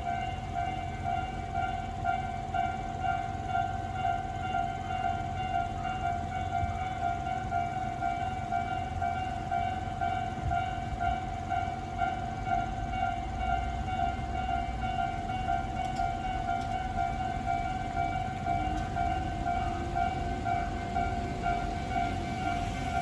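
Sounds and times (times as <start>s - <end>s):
level crossing alarm ringing: 0.0s - 23.0s.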